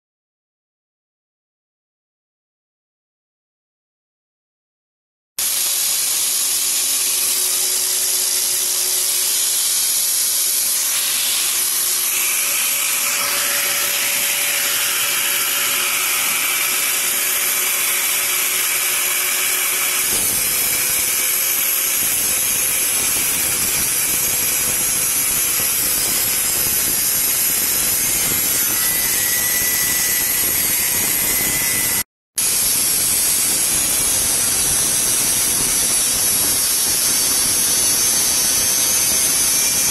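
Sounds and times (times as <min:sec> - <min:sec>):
angle grinder cutting steel: 0:05.4 - 0:39.9.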